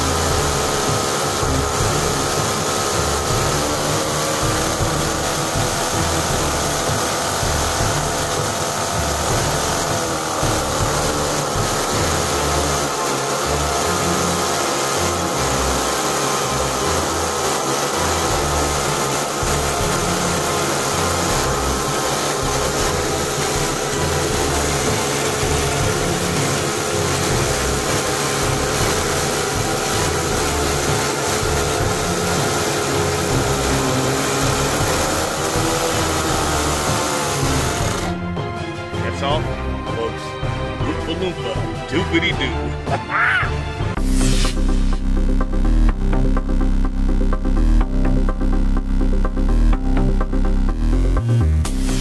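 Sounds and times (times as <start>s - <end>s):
model boat engine running: 0.0s - 42.9s, 43.9s - 52.0s.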